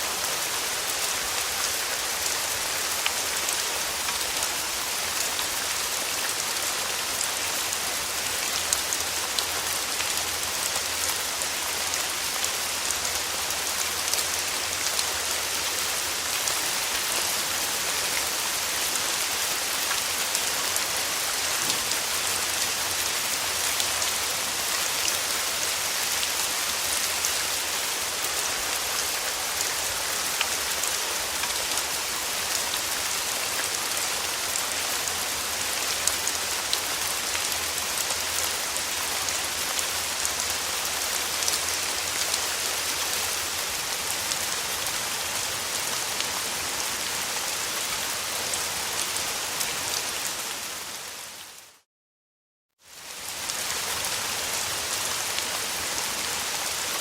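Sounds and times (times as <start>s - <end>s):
steady rainfall hiss: 0.0s - 51.8s, 52.9s - 57.0s.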